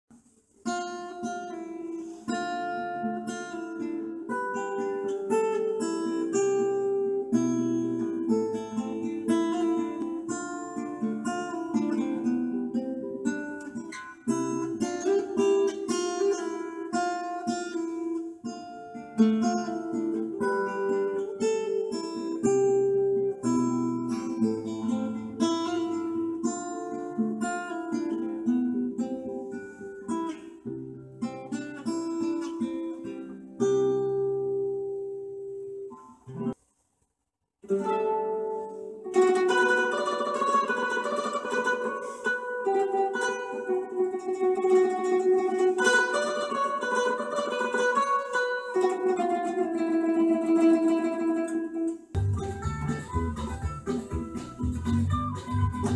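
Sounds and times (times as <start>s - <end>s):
amplified acoustic guitar: 0.1s - 36.8s, 37.6s - 55.9s.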